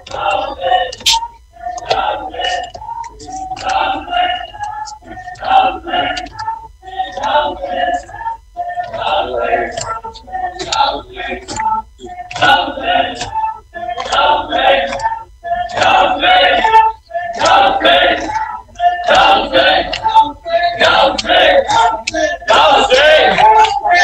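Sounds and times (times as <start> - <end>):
men chanting together: 0.0 - 24.0.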